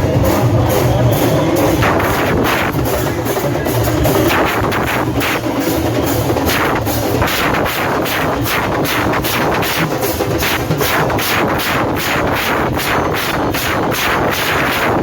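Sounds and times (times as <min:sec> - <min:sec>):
loud drumming: 0:00.0 - 0:15.0.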